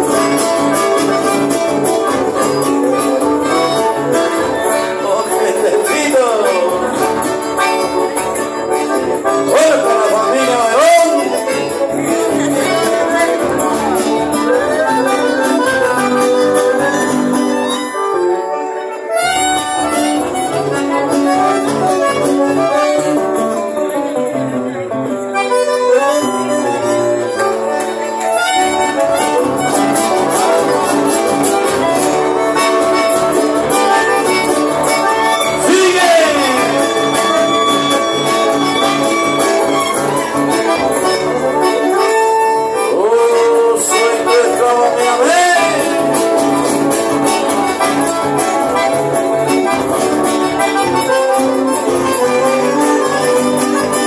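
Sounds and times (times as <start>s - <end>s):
acoustic guitars playing: 0.0s - 54.0s.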